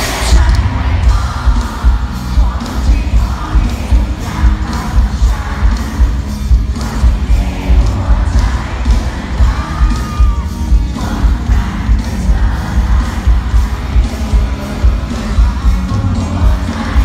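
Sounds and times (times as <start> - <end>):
booming bass beat: 0.0 - 17.0
faint crowd voices: 0.0 - 17.0
live band playing pop-rock: 0.0 - 17.0.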